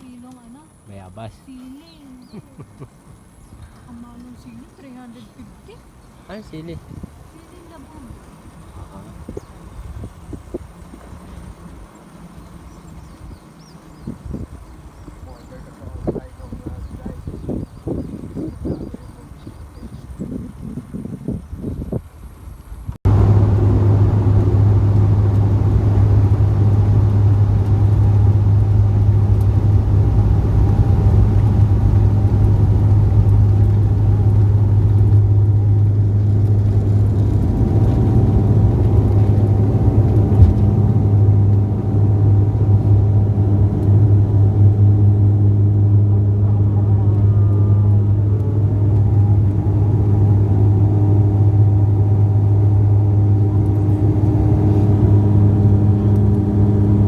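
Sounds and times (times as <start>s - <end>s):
motor vehicle drone: 0.0s - 57.0s.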